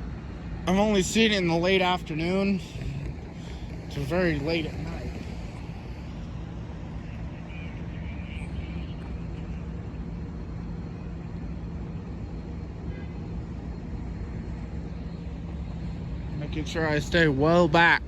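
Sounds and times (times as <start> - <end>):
locomotive diesel engine droning: 0.0 - 18.0.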